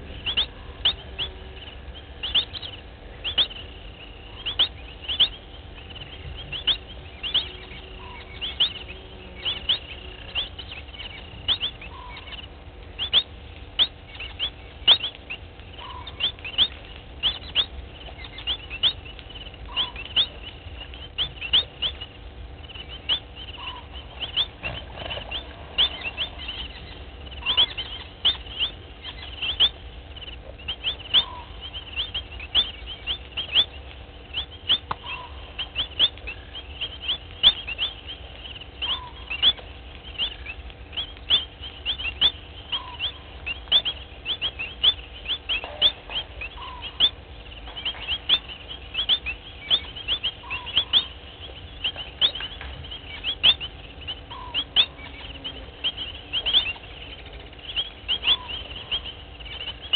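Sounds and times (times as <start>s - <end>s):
faint steady hum: 0.0s - 59.9s
high animal chirps: 0.0s - 59.9s
lower repeating animal call: 0.0s - 59.9s.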